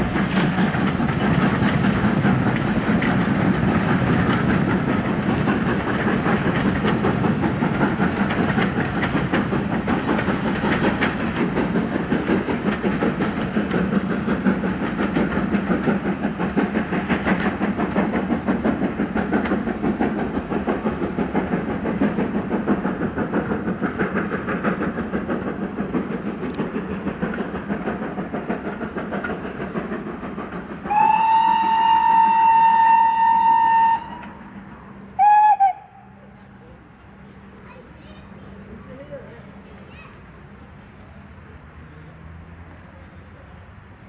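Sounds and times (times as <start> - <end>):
steam hiss: 0.0 - 44.0
steam train clattering by: 0.0 - 44.0.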